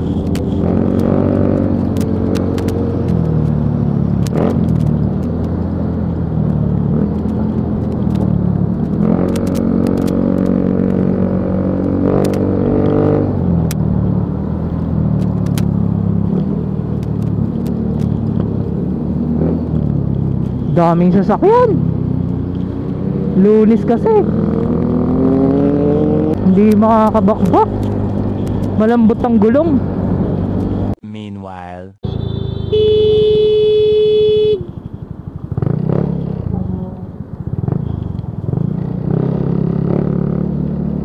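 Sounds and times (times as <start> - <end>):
motorcycle engine revving: 0.0 - 30.9, 32.0 - 41.0
low road rumble: 0.0 - 41.0.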